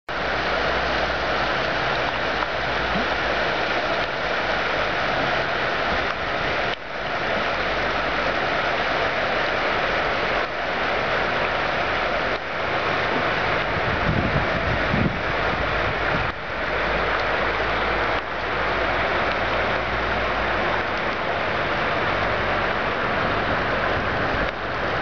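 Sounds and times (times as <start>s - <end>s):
fast-flowing floodwater: 0.1s - 25.0s
rain: 0.1s - 25.0s.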